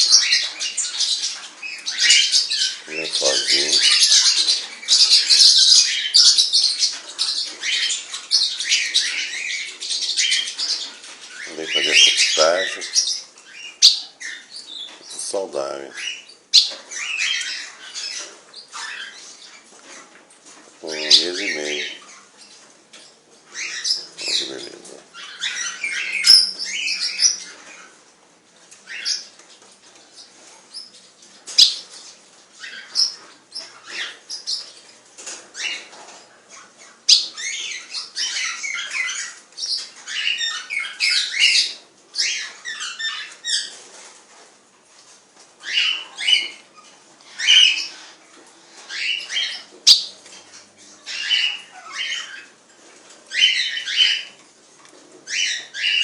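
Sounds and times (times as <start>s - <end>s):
parrots chattering and squawking: 0.0s - 56.0s.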